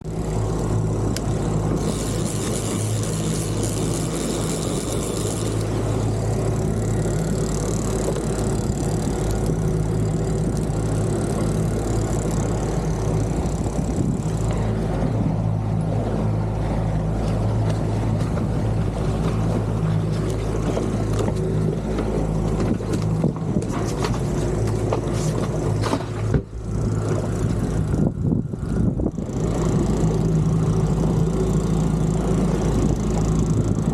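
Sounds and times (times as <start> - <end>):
boat engine humming: 0.0 - 33.9
wind and water hiss: 0.0 - 33.9.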